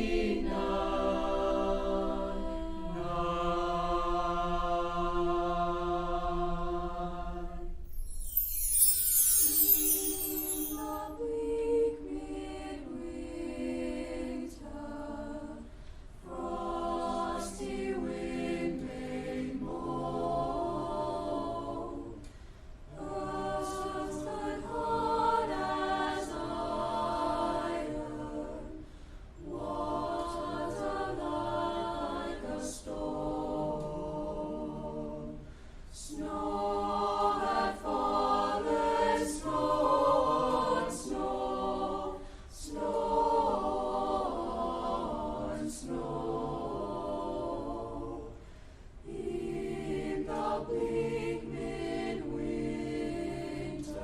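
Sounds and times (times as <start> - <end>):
choir singing: 0.0 - 22.3, 22.9 - 54.0.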